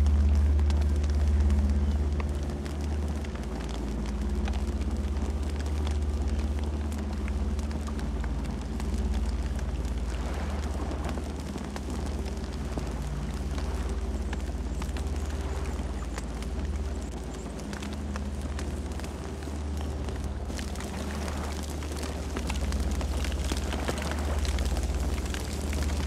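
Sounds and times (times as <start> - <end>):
campfire crackling and popping: 0.0 - 26.0
low fire rumble: 0.0 - 26.0.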